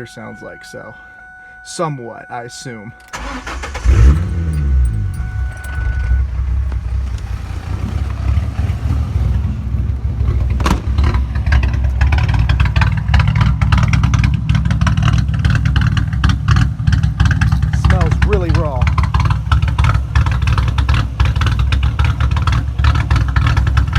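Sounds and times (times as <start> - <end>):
car engine idling unevenly: 0.0 - 23.9.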